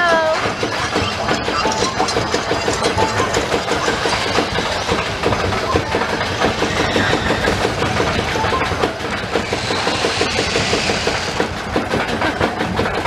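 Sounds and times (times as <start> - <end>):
chain lift clacking: 0.0 - 13.0
mechanical rumble: 0.0 - 13.0.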